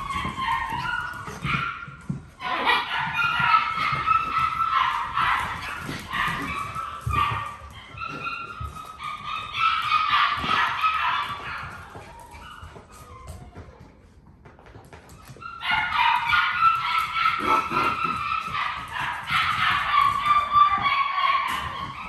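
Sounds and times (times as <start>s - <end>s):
puppies whining and yipping: 0.0s - 22.0s.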